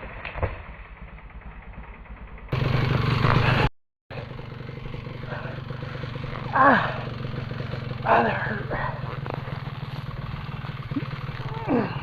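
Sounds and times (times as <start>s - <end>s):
two-stroke engine running: 0.1s - 12.0s.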